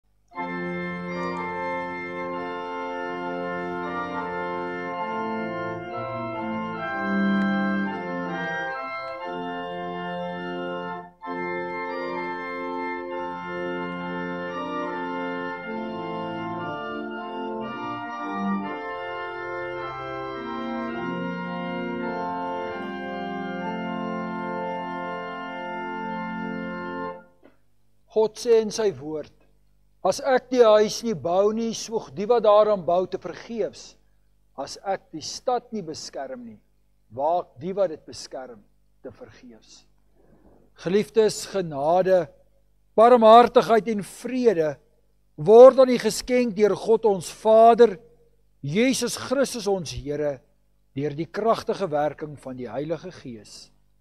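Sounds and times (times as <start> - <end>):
organ playing slow chords: 0.1 - 54.0.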